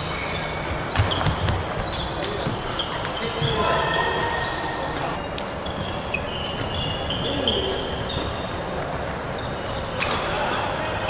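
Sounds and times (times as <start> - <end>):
shoes squeaking on wooden floor: 0.0 - 10.0.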